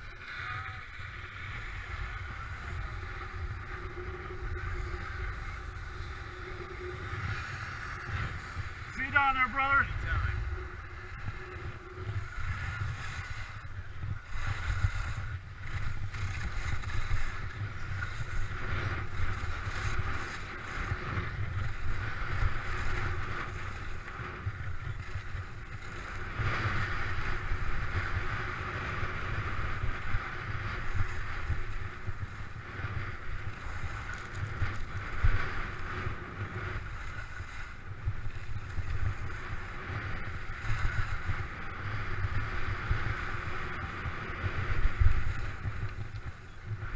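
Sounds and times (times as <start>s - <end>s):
skis scraping over snow: 0.0s - 46.9s
wind buffeting microphone: 0.0s - 46.9s.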